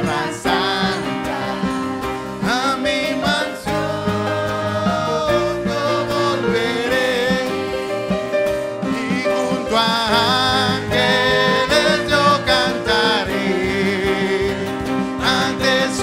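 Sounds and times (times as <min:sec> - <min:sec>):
instrumental accompaniment: 0:00.0 - 0:16.0
singers: 0:00.0 - 0:16.0.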